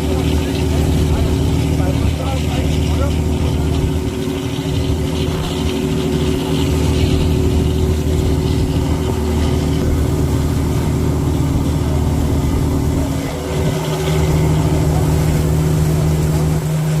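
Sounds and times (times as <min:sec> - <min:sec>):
boat engine running: 0:00.0 - 0:17.0
wind and water rushing: 0:00.0 - 0:17.0.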